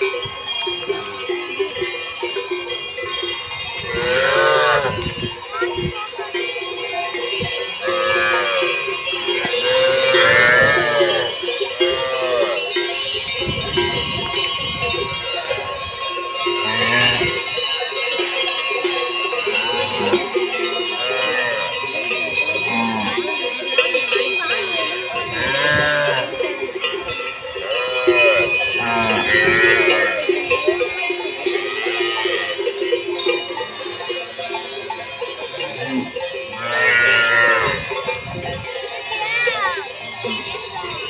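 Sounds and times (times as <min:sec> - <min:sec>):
cattle neck bells clanging: 0:00.0 - 0:41.0.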